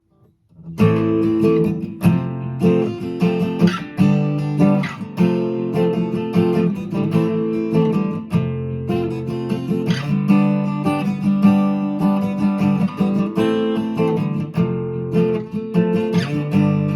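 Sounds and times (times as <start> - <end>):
acoustic guitar strumming chords: 0.5 - 16.9.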